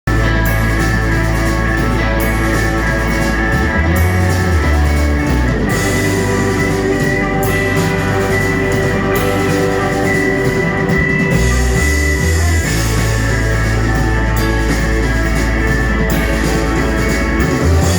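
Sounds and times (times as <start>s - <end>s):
rock band playing: 0.0s - 17.9s.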